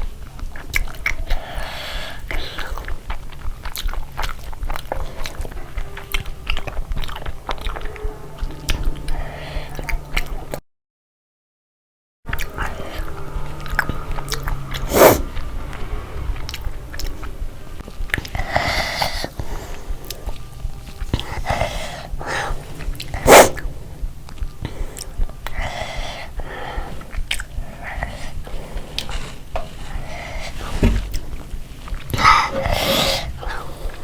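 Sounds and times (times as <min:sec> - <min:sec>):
mouth chewing food: 0:00.0 - 0:10.6, 0:12.3 - 0:34.0.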